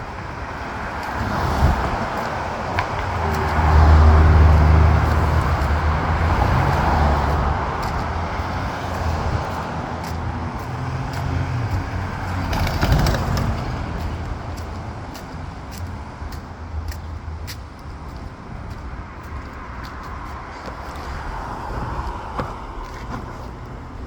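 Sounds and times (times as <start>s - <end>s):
steady traffic noise: 0.0s - 24.0s
vehicle engine hum passing: 0.0s - 24.0s.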